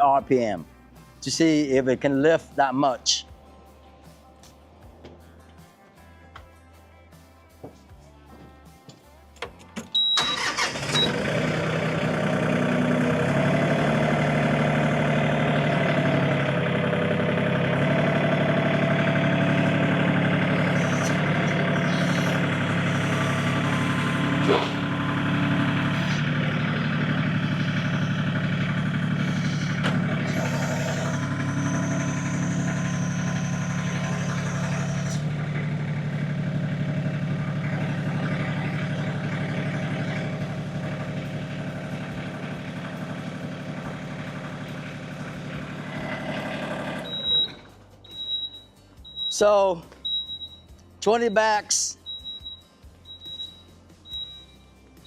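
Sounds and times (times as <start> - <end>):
tractor diesel engine running: 9.5 - 55.0.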